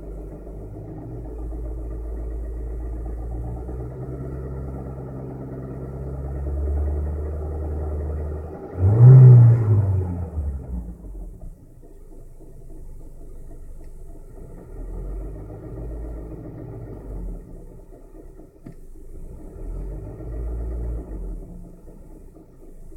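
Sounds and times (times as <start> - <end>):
engine knocking and rumbling: 0.0 - 22.9.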